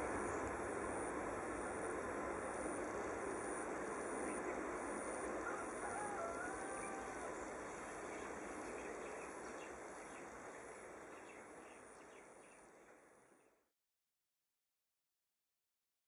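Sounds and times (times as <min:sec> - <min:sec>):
distant jet engine roar: 0:00.0 - 0:13.2.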